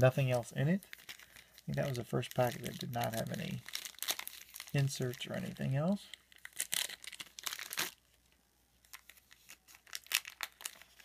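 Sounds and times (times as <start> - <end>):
foil wrapper crinkling and tearing: 0.1 - 11.0.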